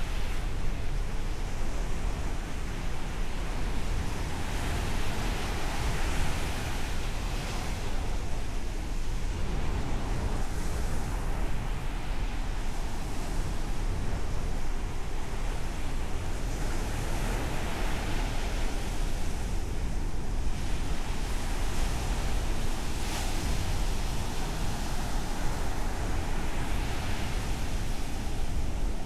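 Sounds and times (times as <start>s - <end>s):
waves breaking ashore: 0.0s - 29.0s.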